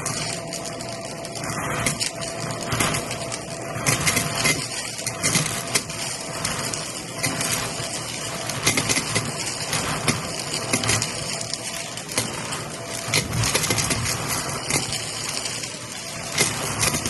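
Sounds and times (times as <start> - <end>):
pellets crackling in vacuum nozzle: 0.0 - 17.0
vacuum cleaner motor hum: 0.0 - 17.0.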